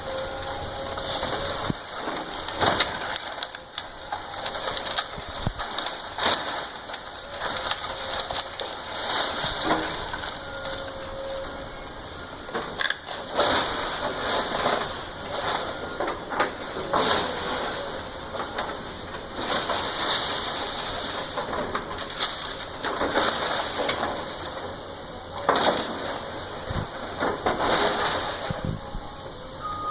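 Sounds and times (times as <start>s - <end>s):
wood and debris crunching: 0.0s - 29.9s.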